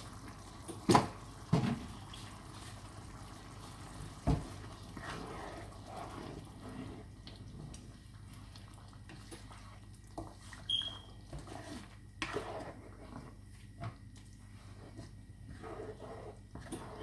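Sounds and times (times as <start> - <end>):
spatula stirring thick sauce: 2.1 - 17.0.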